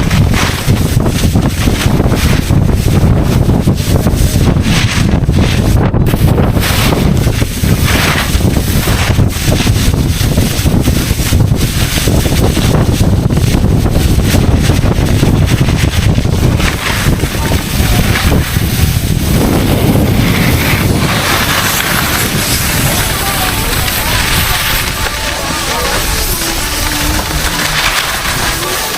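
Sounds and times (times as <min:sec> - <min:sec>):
skis hissing through snow: 0:00.0 - 0:28.9
wind buffeting microphone: 0:00.0 - 0:28.9.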